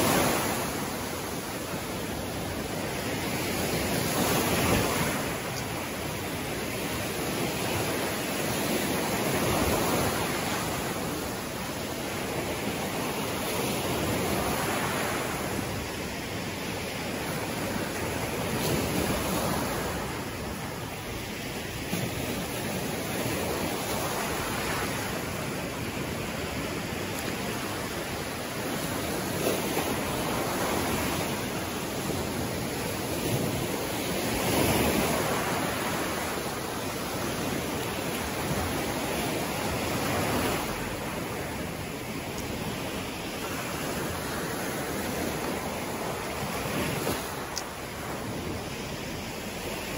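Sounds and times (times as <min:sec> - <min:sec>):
surf waves breaking on beach: 0:00.0 - 0:49.9.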